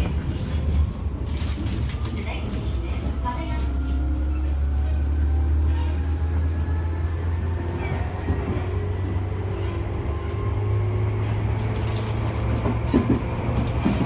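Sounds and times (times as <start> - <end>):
train motor hum and rumble: 0.0 - 14.0.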